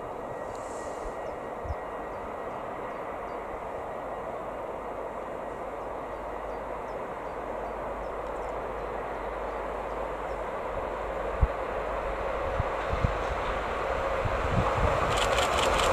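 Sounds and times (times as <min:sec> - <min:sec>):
freight train rumble: 0:00.0 - 0:15.9.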